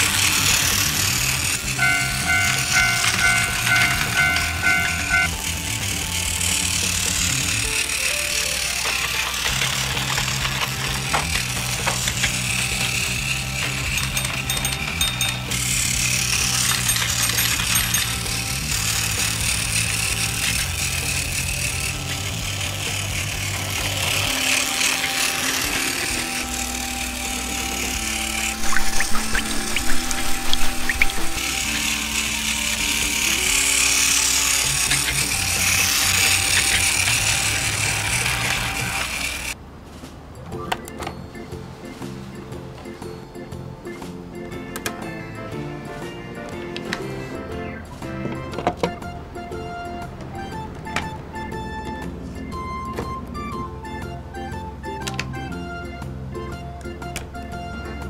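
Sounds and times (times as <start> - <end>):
background music: 0.0 - 39.6, 40.3 - 58.0
toy train motors whirring: 0.0 - 39.6, 44.7 - 58.0.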